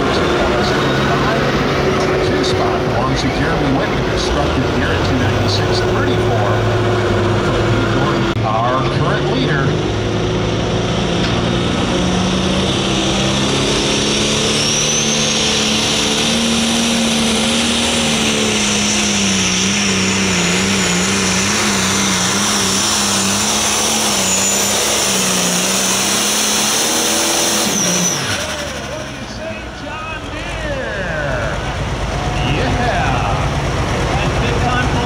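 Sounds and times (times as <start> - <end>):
diesel engine running hard: 0.0 - 35.0.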